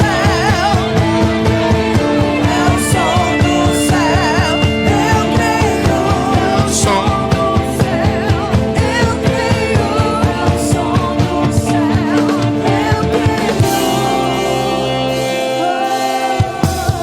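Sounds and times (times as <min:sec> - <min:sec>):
singing over a full band: 0:00.0 - 0:17.0
steady drum beat: 0:00.0 - 0:17.0.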